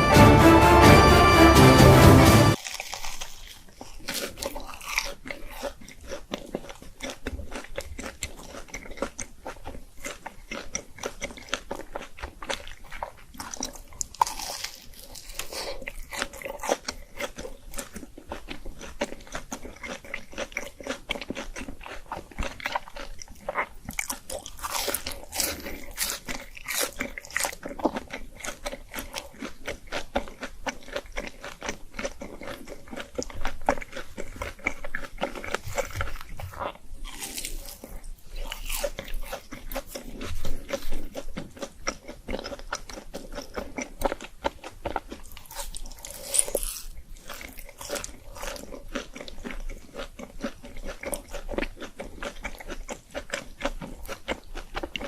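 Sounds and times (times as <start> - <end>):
chewing crispy fried food: 2.5 - 55.0.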